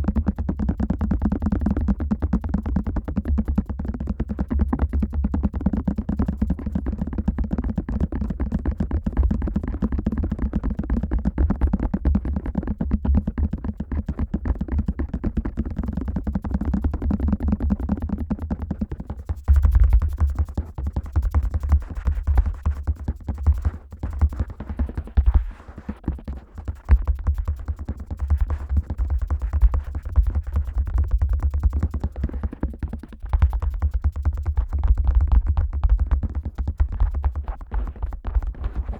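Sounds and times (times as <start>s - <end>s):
fingers tapping on microphone: 0.0s - 38.9s.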